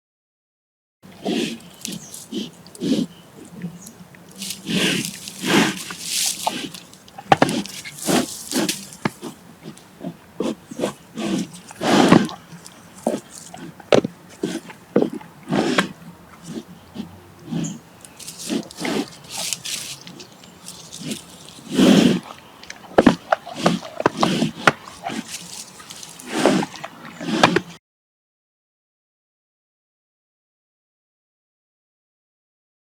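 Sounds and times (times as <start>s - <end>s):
bear chewing on hard root: 1.1s - 27.8s
heavy breathing: 1.1s - 27.8s.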